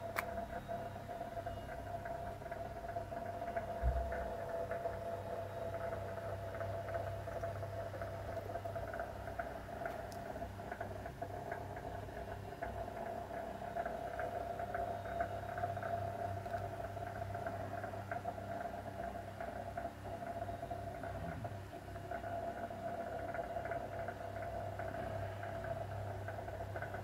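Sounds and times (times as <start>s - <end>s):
boiler humming: 0.0s - 27.0s
fast light ticking: 0.0s - 27.0s.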